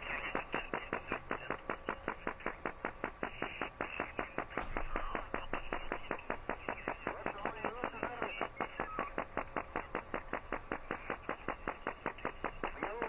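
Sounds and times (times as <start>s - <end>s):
radio static: 0.0s - 13.0s
rapid radio pulse tapping: 0.0s - 13.0s.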